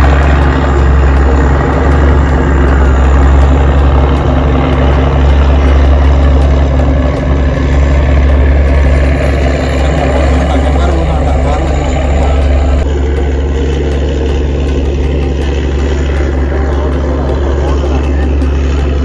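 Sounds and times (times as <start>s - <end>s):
ferry engine low drone: 0.0s - 19.0s.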